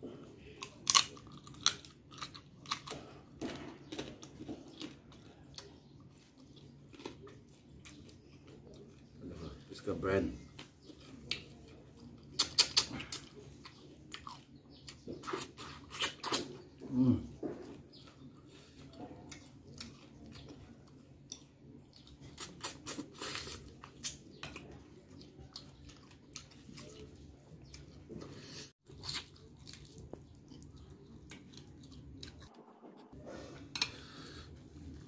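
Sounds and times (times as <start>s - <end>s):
man chewing food: 0.0s - 9.8s, 10.4s - 35.0s.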